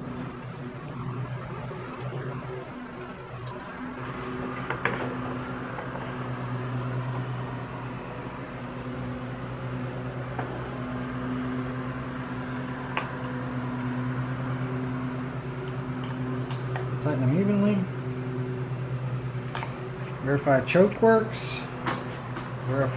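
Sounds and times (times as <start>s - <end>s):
machine humming: 0.0s - 22.9s.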